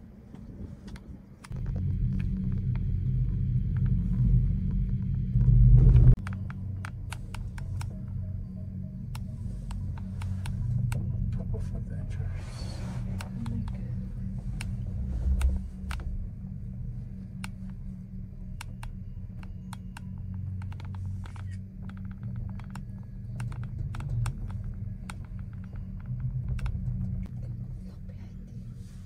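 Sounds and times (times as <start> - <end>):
cable car cabin hum: 0.0 - 29.0.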